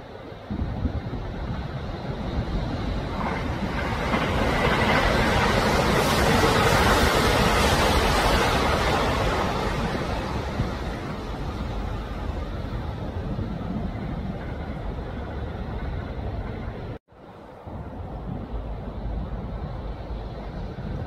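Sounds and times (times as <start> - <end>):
train rushing noise: 0.0 - 21.0.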